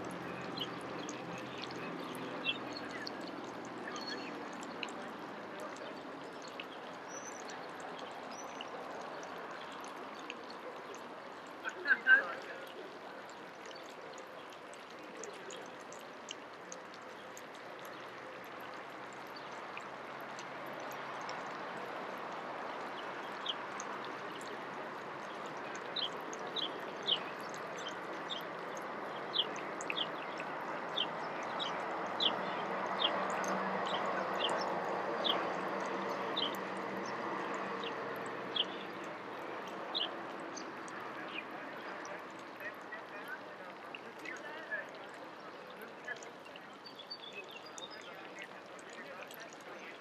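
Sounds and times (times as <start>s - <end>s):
steady rushing water-like noise: 0.0s - 50.0s.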